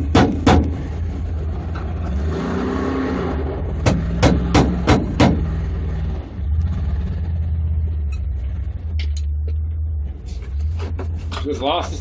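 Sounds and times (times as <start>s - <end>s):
car engine idling: 0.0s - 2.2s, 3.5s - 12.0s.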